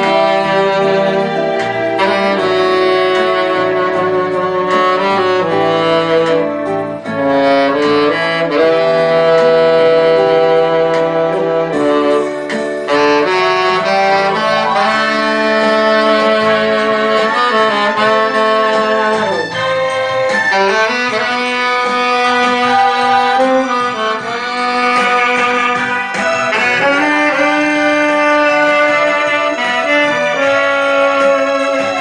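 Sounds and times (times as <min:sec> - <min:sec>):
backing instruments: 0:00.0 - 0:32.0
saxophone melody: 0:00.0 - 0:32.0.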